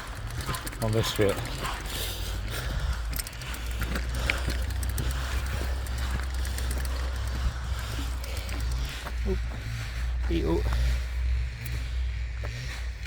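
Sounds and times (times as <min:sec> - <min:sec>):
mountain bike rattling and clicking: 0:00.0 - 0:13.0
steady low rumble: 0:01.5 - 0:13.0.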